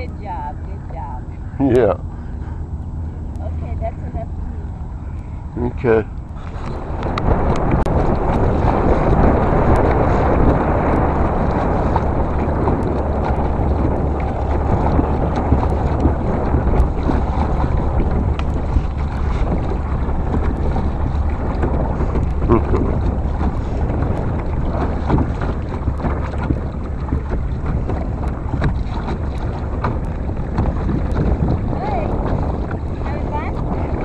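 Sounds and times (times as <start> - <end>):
water lapping around kayak: 0.0 - 34.0
wind buffeting microphone: 0.0 - 34.0.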